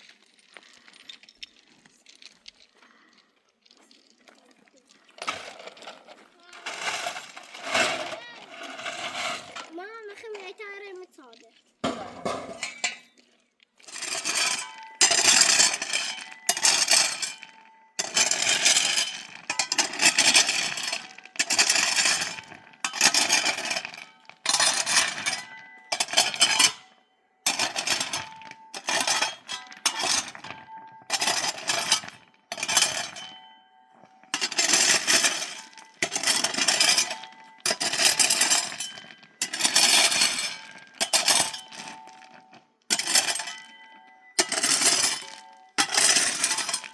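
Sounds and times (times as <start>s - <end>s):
gritty scraping strokes: 3.8s - 46.9s.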